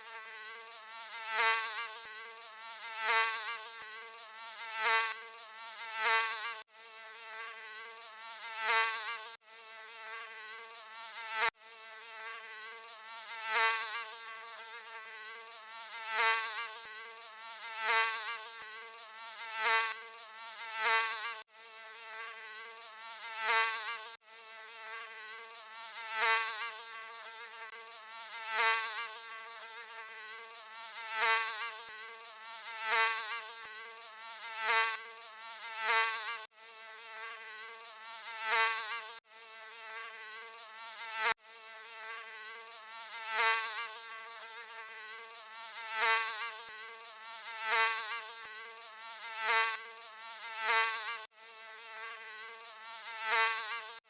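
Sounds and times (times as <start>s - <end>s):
mosquito buzzing: 0.0s - 54.0s.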